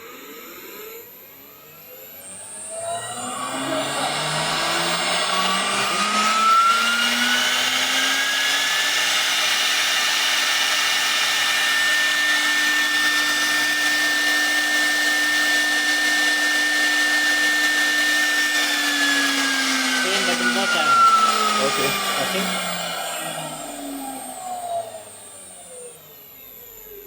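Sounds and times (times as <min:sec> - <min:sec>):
router spindle motor whine: 0:00.0 - 0:27.0.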